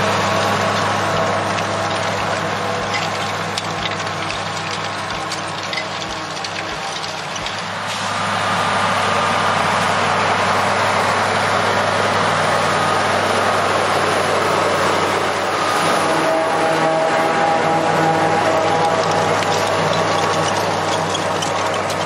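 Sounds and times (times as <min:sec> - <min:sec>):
diesel tractor engine under load: 0:00.0 - 0:22.0.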